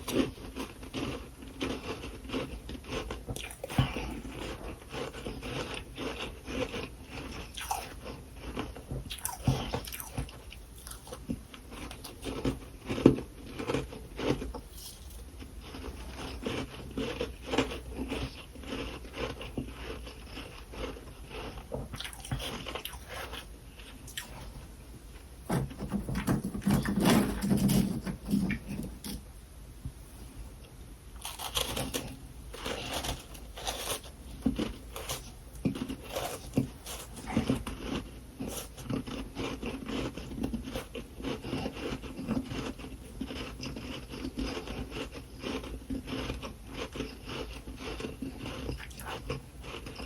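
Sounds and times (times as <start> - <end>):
crunching frost between teeth: 0.0 - 24.6, 31.2 - 50.0.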